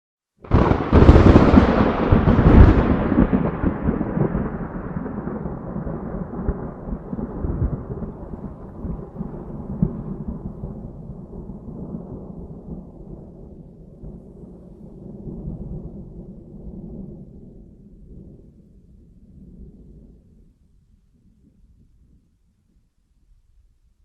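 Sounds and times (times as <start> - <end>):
thunderclap crack and rumble: 0.4 - 20.6.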